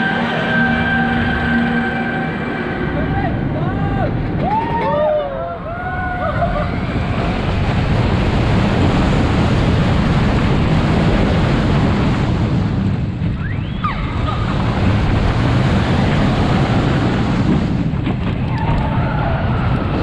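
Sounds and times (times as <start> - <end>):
roller coaster train rumbling: 0.0 - 20.0
wind buffeting microphone: 3.2 - 20.0.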